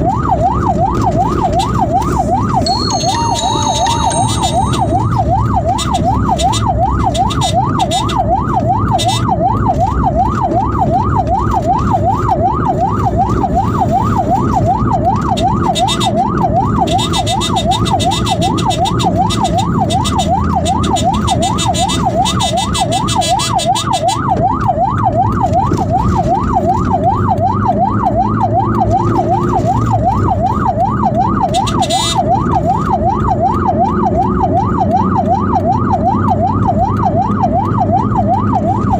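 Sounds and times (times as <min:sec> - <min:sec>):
ambulance siren yelping: 0:00.0 - 0:38.9
vehicle and road rumble: 0:05.0 - 0:38.9.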